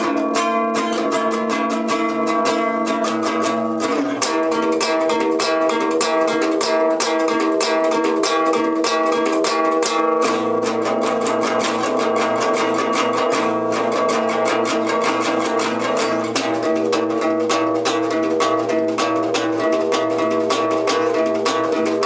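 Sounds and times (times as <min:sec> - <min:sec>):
plucked guitar picking notes: 0:00.0 - 0:22.0.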